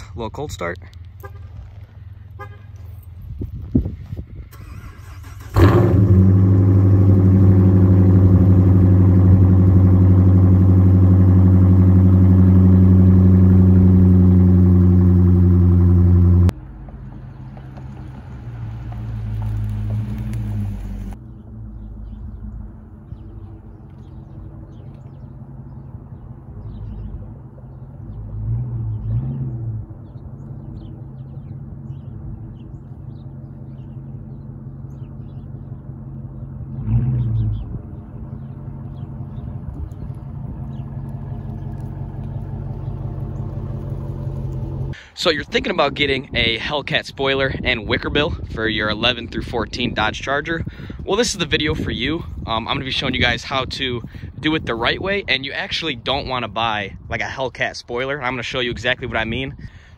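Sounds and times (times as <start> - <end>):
distant car exhaust rumble: 0.0 - 59.9.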